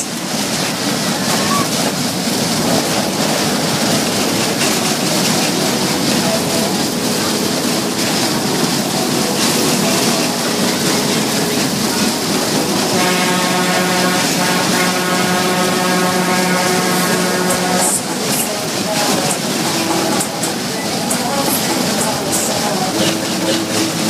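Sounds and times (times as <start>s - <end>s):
fairground ride rushing: 0.0s - 24.0s.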